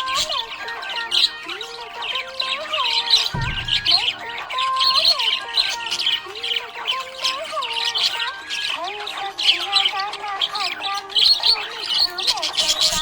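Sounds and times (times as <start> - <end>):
budgerigar chattering: 0.0 - 13.0.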